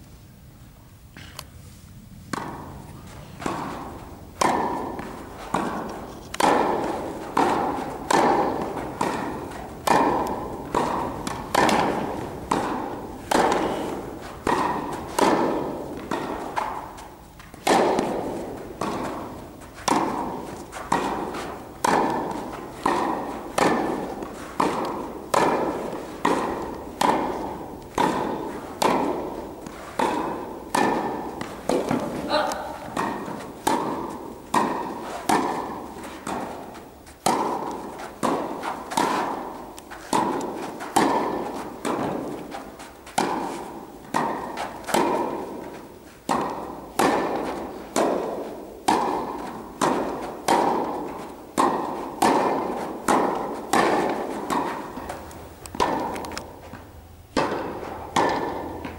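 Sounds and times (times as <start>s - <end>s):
tennis ball hit by rackets: 2.2s - 58.9s.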